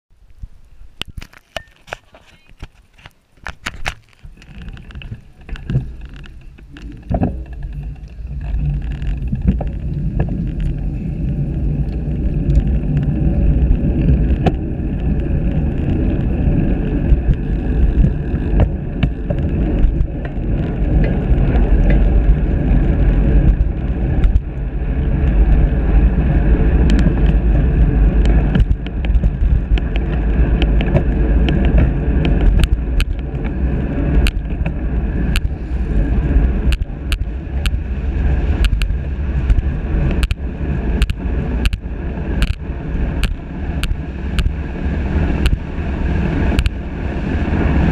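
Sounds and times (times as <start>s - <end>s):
wind and road noise: 0.1s - 47.9s.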